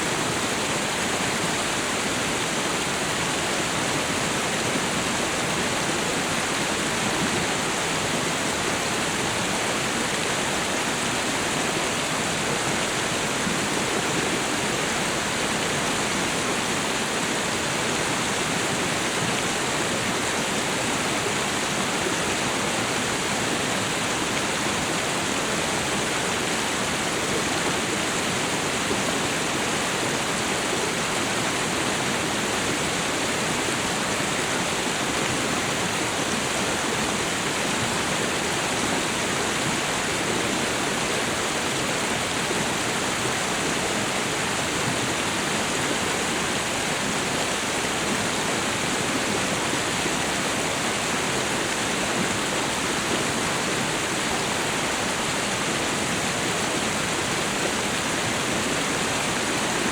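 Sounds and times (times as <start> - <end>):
waterfall and river roaring: 0.0 - 59.9.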